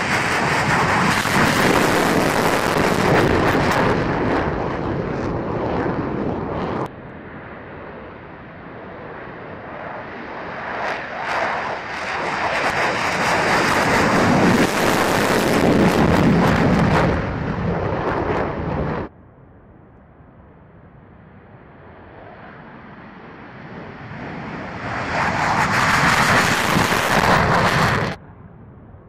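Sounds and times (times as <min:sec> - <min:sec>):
fighter jet taking off: 0:00.0 - 0:19.1, 0:21.5 - 0:28.9.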